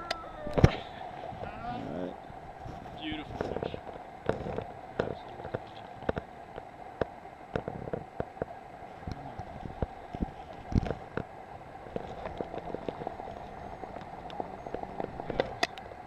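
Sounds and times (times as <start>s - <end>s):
clicks and knocks in water and reeds: 2.6s - 16.0s.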